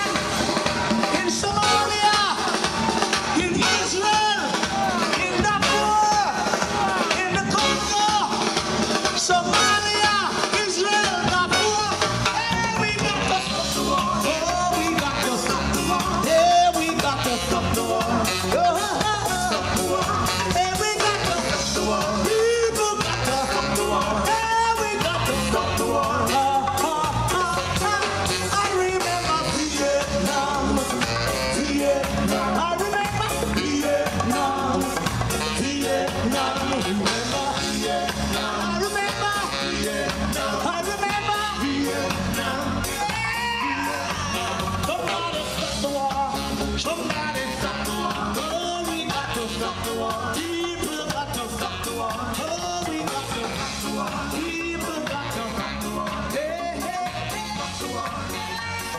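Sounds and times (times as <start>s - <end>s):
upbeat song with singing: 0.0s - 58.9s.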